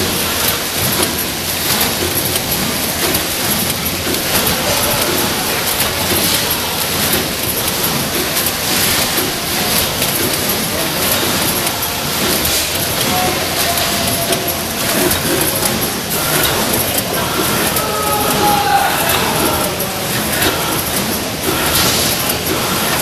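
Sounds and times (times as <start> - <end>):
machine clicks: 0.0 - 23.0
packing machine running: 0.0 - 23.0.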